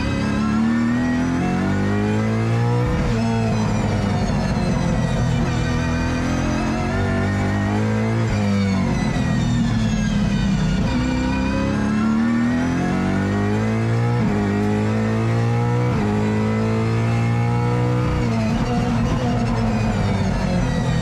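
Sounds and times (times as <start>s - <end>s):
race car engine pulling hard: 0.0s - 21.0s
straight-cut gear whine: 0.0s - 21.0s.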